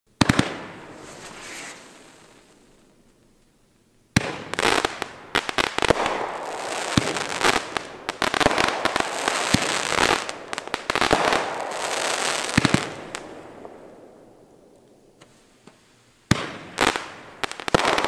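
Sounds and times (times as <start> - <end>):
fireworks shots and bursts: 0.1 - 2.9, 4.1 - 14.7, 16.3 - 18.0
fireworks crackling: 0.2 - 3.5, 4.1 - 18.0.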